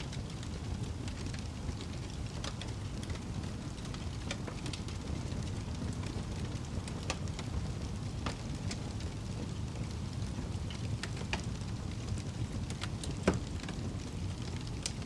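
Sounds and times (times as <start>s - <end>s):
fire crackles and pops: 0.0s - 15.0s
fire rumbling and hissing: 0.0s - 15.0s.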